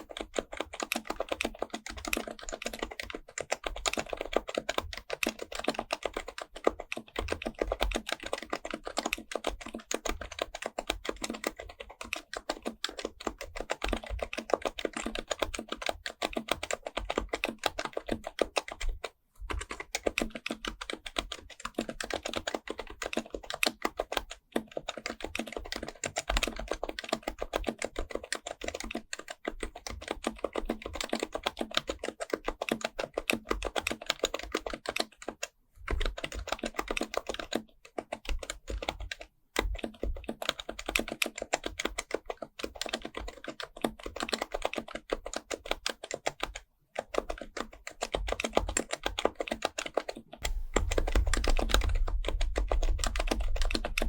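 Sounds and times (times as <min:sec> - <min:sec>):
keyboard typing: 0:00.0 - 0:54.0.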